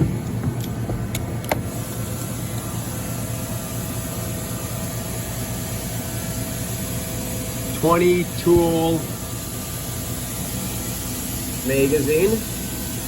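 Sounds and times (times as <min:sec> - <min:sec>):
machine hum: 0:00.0 - 0:12.7.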